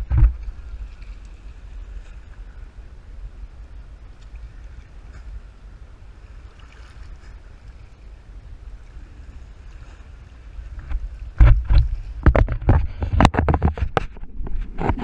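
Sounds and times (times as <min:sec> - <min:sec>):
faint sea sounds: 0:00.0 - 0:15.0
wind rumble on microphone: 0:00.0 - 0:15.0.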